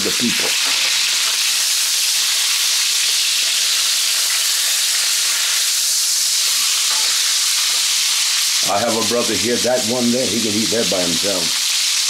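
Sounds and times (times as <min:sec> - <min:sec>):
steaks sizzling: 0:00.0 - 0:12.0.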